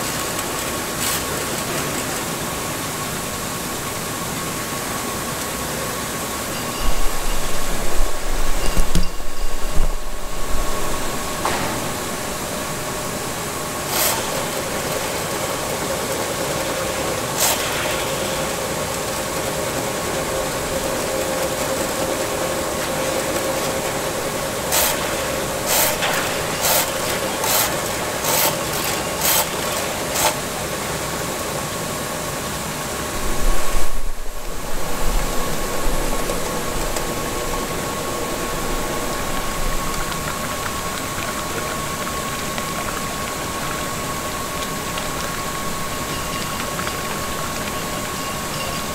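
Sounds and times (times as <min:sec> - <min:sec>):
drain-cleaning machine running: 0:00.0 - 0:48.9.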